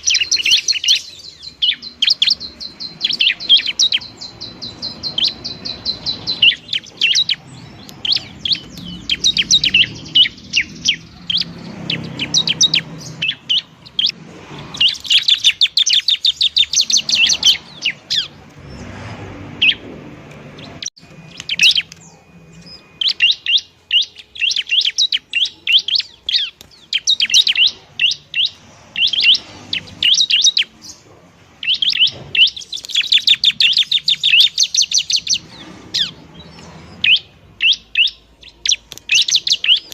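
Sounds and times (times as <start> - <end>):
bird singing high sharp chirps: 0.0 - 39.9.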